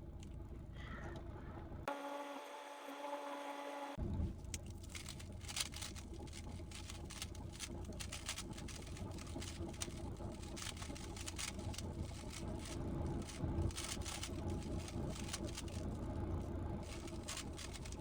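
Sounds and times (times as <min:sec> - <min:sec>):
steady low hum: 0:03.6 - 0:18.0.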